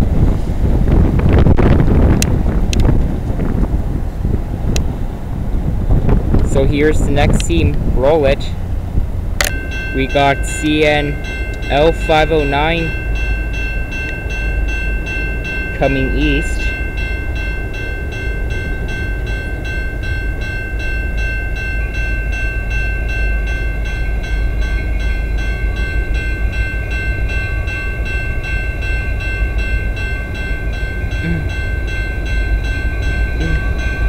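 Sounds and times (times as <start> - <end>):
low rumble: 0.0 - 34.0
crossing bell ringing: 6.6 - 34.0.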